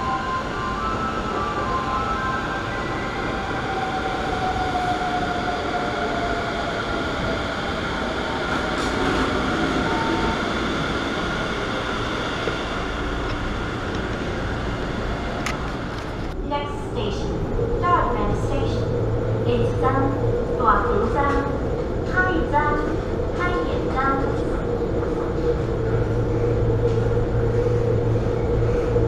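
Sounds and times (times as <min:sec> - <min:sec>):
train rumble and hiss: 0:00.0 - 0:29.0.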